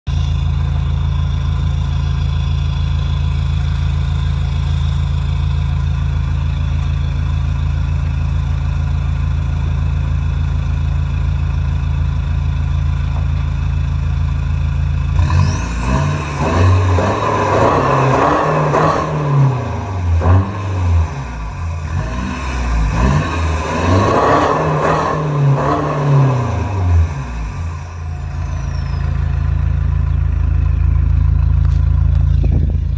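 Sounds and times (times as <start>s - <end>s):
diesel engine idling and revving: 0.0s - 32.9s.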